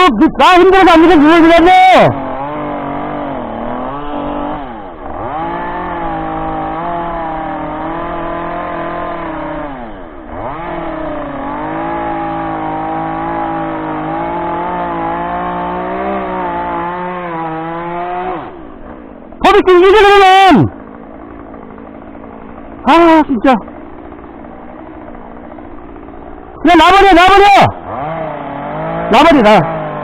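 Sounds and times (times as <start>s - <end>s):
chainsaw cutting: 0.0s - 30.0s.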